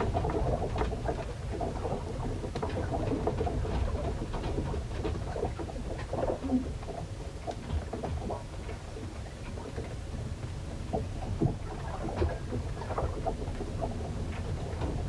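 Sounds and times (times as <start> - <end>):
rumble of wind and water: 0.0 - 15.0
wooden ship knocks and creaks: 0.0 - 15.0.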